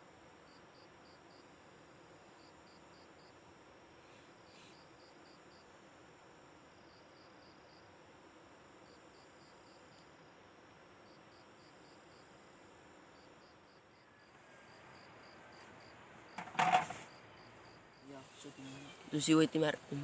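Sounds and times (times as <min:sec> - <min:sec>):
faint hiss: 0:00.0 - 0:10.4, 0:11.0 - 0:20.0
insects chirping: 0:00.2 - 0:05.9, 0:06.7 - 0:20.0.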